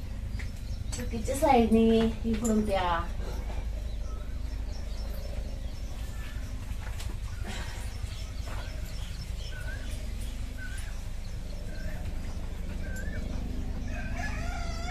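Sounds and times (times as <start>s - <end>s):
small bird chirping: 0.0s - 14.5s
steady low hum: 0.0s - 14.9s.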